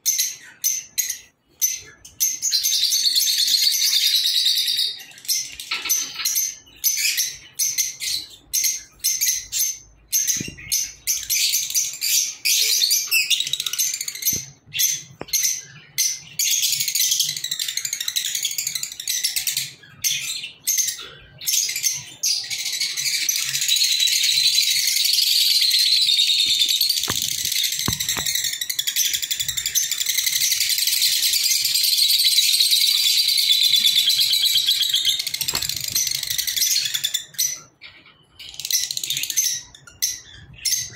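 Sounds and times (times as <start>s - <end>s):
lovebirds chattering: 0.1s - 40.9s.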